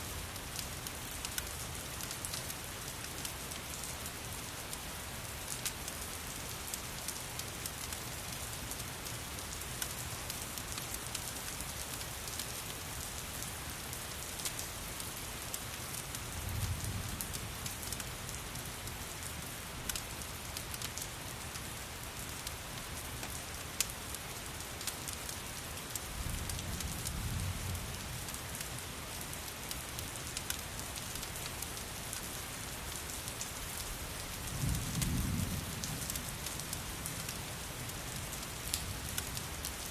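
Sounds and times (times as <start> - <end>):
steady rain: 0.0 - 39.9
wood fire crackling: 0.2 - 27.1, 28.0 - 35.2, 36.0 - 39.9.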